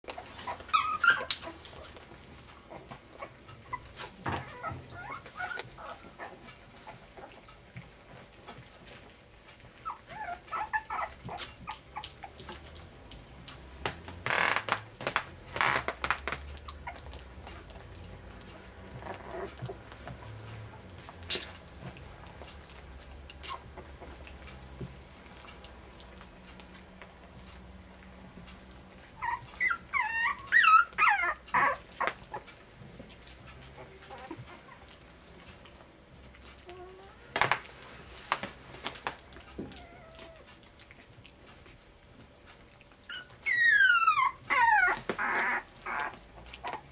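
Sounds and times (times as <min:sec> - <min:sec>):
puppies whimpering and squealing: 0:00.1 - 0:14.8, 0:15.4 - 0:46.9.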